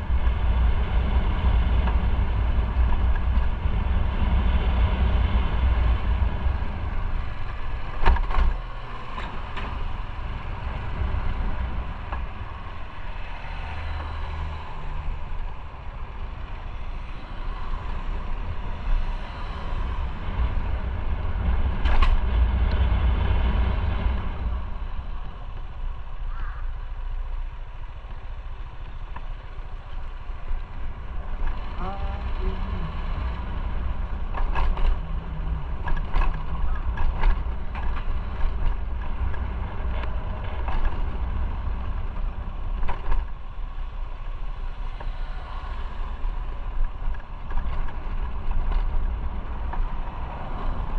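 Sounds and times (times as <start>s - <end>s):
motorcycle engine rumble: 0.0s - 50.9s
wind and road noise: 0.0s - 50.9s.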